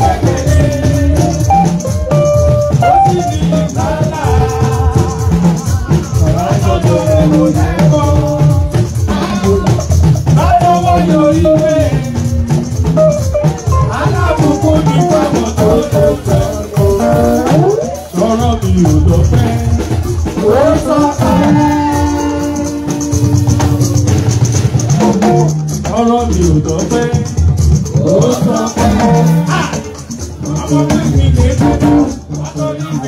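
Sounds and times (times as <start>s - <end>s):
bass and drums: 0.0s - 33.0s
person singing: 0.0s - 33.0s
shaker keeping a beat: 0.0s - 33.0s.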